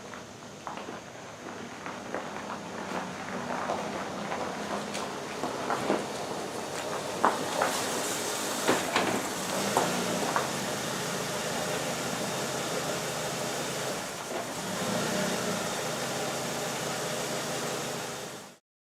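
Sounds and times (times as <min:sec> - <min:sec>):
car engine running: 0:03.0 - 0:18.6.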